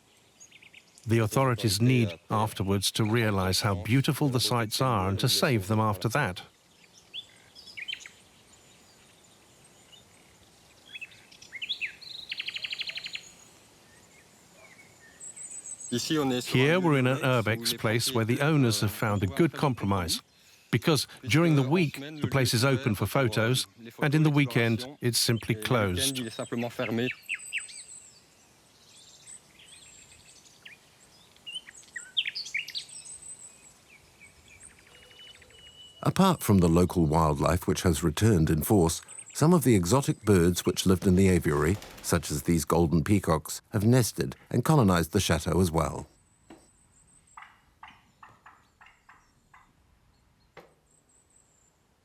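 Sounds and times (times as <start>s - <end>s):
songbird chirps and trill: 0.0s - 42.0s, 44.7s - 52.0s
faint outdoor background noise: 0.0s - 52.0s.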